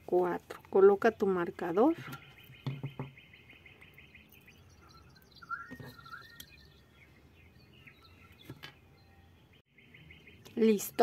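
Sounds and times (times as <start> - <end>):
faint bird chirping: 0.7 - 11.0.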